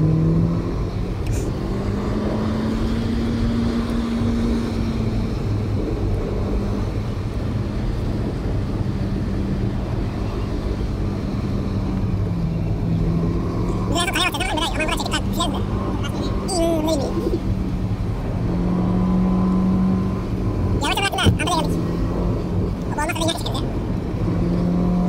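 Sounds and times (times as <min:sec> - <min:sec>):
car engine hum: 0:00.0 - 0:25.0.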